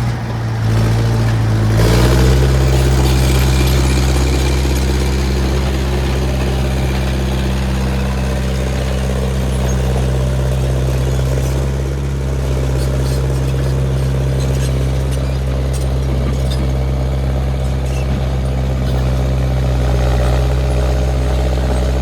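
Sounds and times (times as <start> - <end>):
heavy engine running: 0.0 - 22.0.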